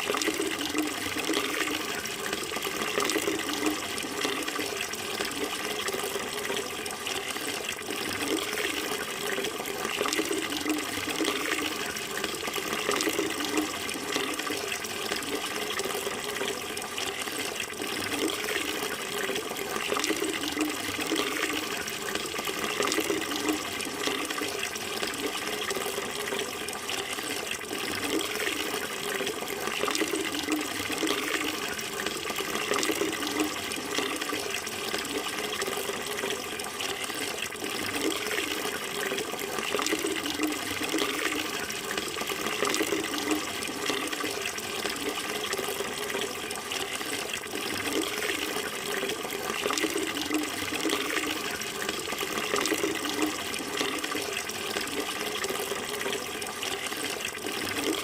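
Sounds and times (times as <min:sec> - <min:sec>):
flowing water: 0:00.0 - 0:58.0.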